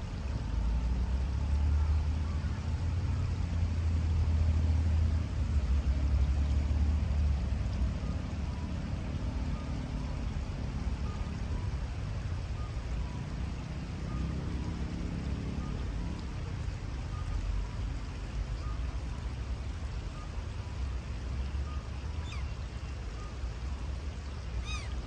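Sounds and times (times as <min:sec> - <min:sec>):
river flowing over stones: 0:00.0 - 0:25.0.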